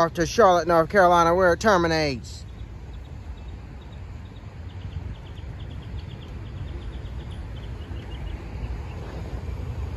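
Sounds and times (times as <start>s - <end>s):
low steady rumble: 0.0s - 9.9s
bird chirping rapidly: 0.2s - 9.1s.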